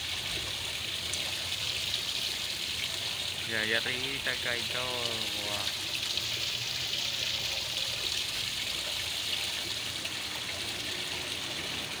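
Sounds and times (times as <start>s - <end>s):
fountain water trickling and splashing: 0.0s - 12.0s.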